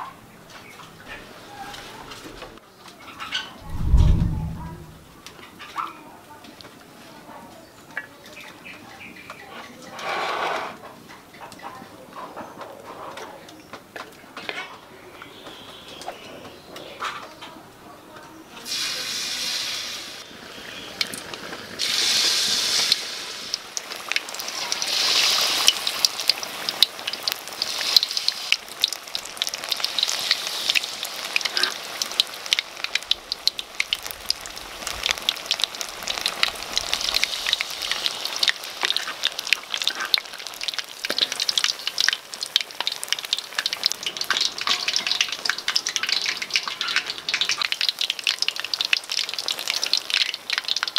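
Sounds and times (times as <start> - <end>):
deep-frying sizzle and crackle: 0.0 - 50.9.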